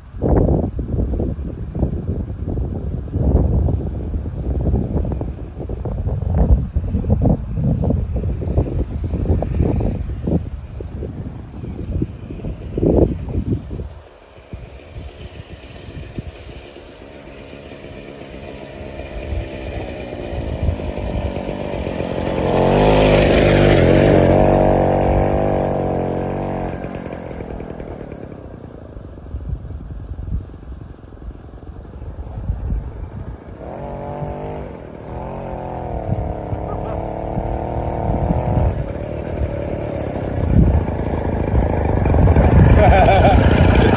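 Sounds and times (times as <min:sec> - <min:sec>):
moped engine running: 0:00.2 - 0:43.9.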